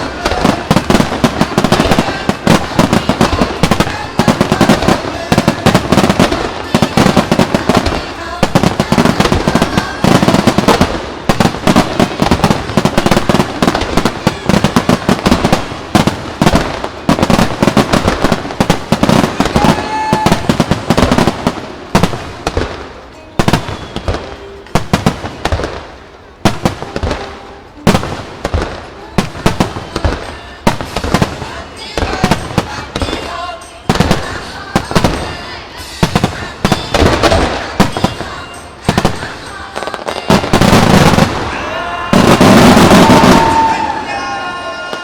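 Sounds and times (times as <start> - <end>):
firework shells bursting: 0.0 - 44.0.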